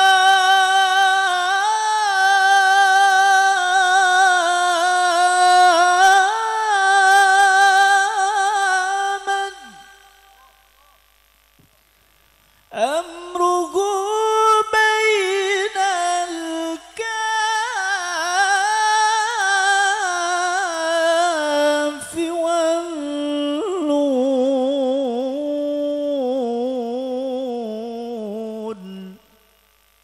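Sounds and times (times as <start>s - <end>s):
person singing unaccompanied: 0.0s - 10.7s, 12.7s - 29.5s.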